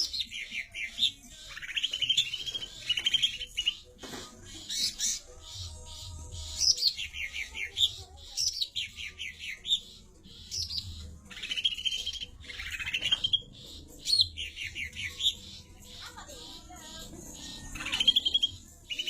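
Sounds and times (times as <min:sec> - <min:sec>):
buzzy bird trill: 0:00.0 - 0:19.0.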